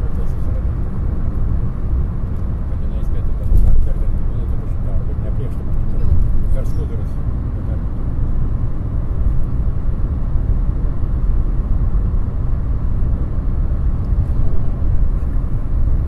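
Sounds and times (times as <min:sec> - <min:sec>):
tyre and road noise: 0:00.0 - 0:16.0.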